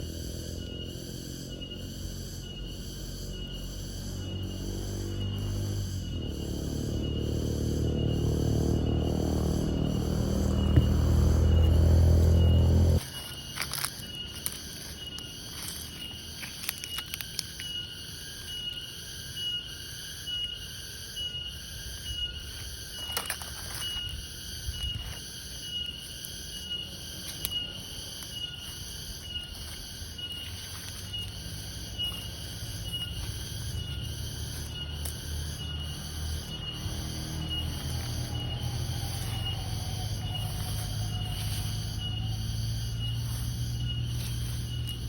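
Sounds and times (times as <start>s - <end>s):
cricket chirping: 0.0s - 45.0s.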